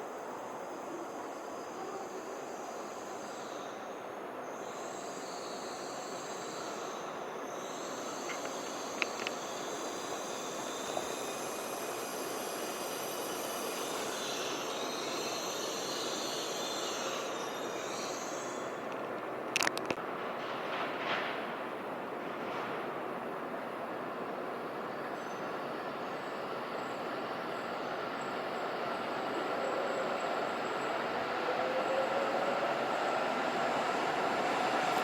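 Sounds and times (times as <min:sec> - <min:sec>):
train rushing past platform: 0:00.0 - 0:35.0.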